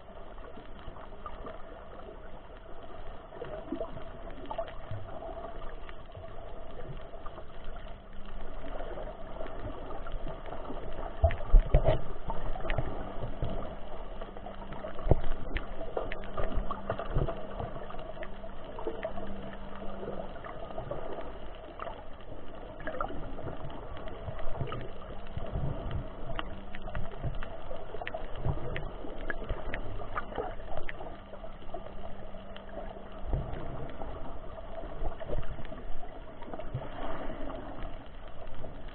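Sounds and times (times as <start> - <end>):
faint clicks: 0.0 - 38.9
muffled underwater water wash: 0.0 - 38.9
steady low hum: 0.0 - 38.9.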